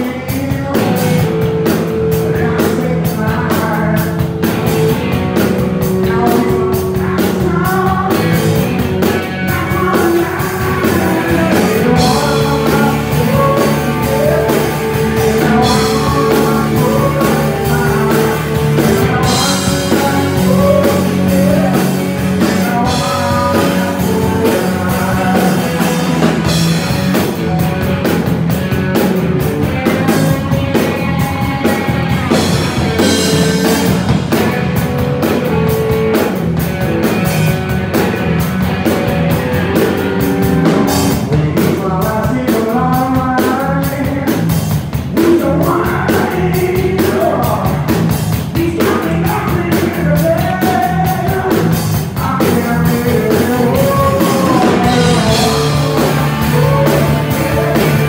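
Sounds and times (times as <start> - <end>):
drum kit: 0.0 - 58.0
electric bass: 0.0 - 58.0
electric guitar: 0.0 - 58.0.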